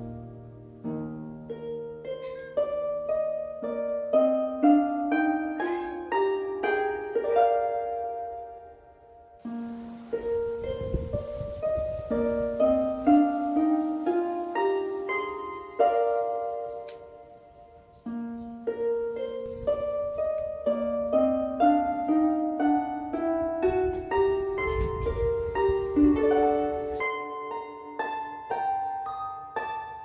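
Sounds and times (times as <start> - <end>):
soft plucked instrumental melody: 0.0 - 30.0.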